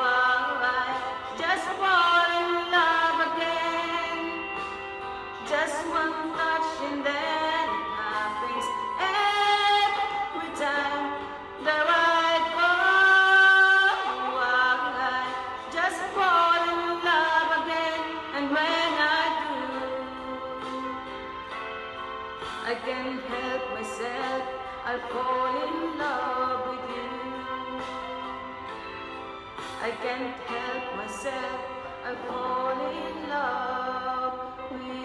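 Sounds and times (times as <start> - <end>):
karaoke backing track: 0.0 - 35.0
woman singing into microphone: 0.0 - 35.0.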